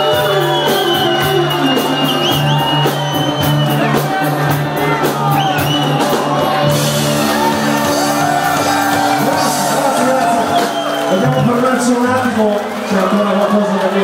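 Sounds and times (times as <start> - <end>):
drum beat: 0.0 - 13.5
crowd shouting: 0.0 - 14.0
live band playing: 0.0 - 14.0.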